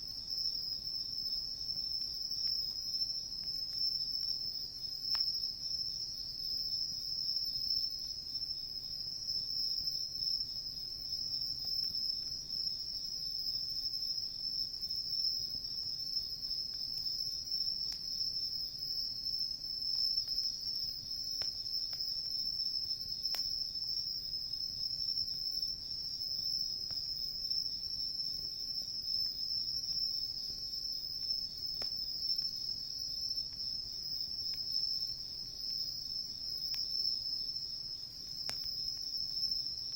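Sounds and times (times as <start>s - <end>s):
crickets chirping: 0.0s - 39.9s
campfire crackling: 0.1s - 8.2s, 13.8s - 39.6s.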